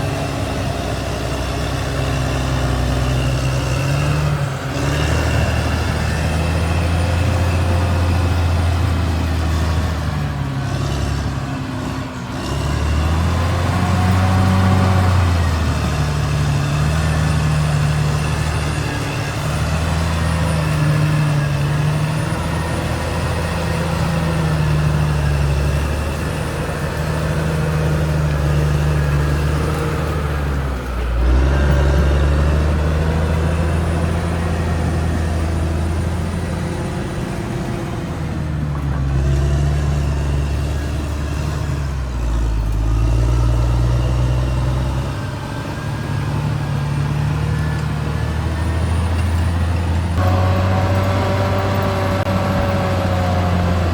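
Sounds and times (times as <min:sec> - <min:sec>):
bulldozer diesel engine: 0:00.0 - 0:53.9.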